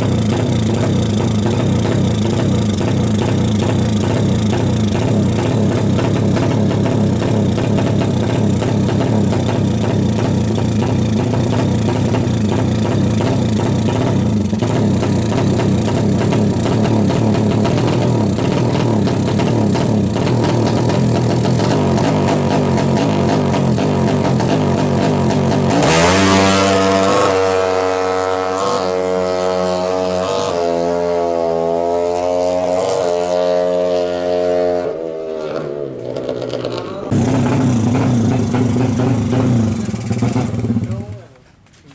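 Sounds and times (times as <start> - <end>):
motorcycle engine running loud: 0.0 - 41.4.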